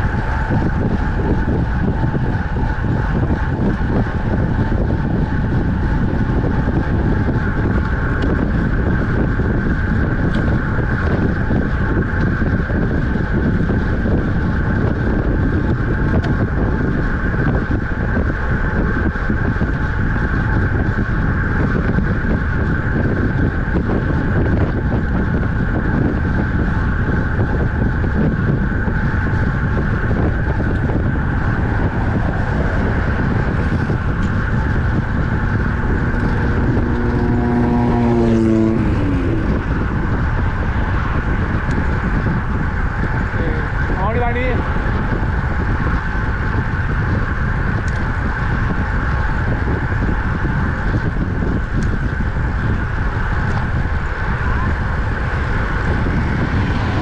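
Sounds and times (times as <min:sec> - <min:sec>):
constant higher hum: 0:00.0 - 0:57.0
wind rushing over microphone: 0:00.0 - 0:57.0.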